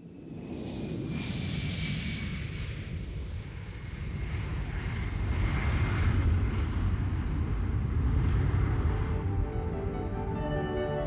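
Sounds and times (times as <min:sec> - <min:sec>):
jet engines at takeoff: 0:00.0 - 0:10.4.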